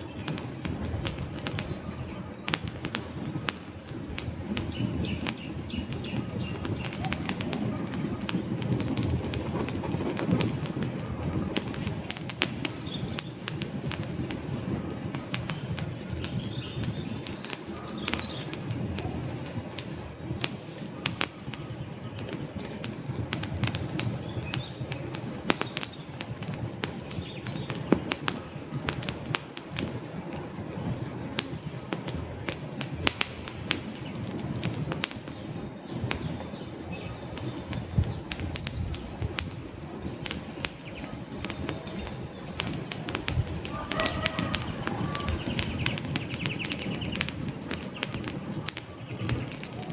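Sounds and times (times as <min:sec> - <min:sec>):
campfire crackling and popping: 0:00.0 - 0:49.9
low rush of flame: 0:00.0 - 0:49.9.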